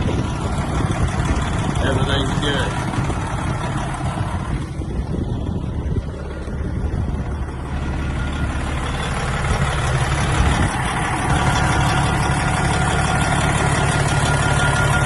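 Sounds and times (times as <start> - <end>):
heavy diesel truck engine running: 0.0 - 15.0.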